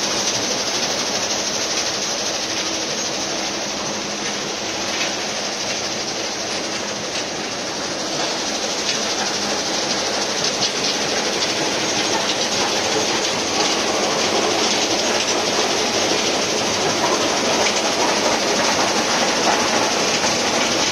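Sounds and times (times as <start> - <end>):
stone crusher machinery: 0.0 - 20.9.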